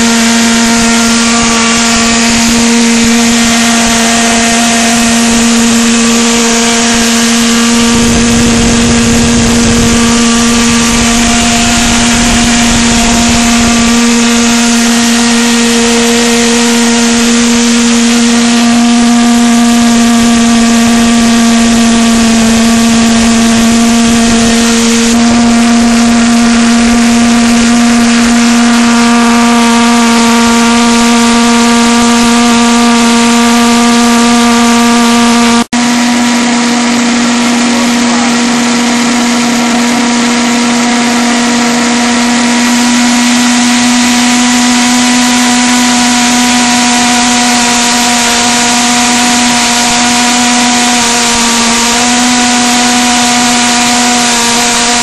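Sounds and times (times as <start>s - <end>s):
pulsejet engine buzzing: 0.0s - 55.0s.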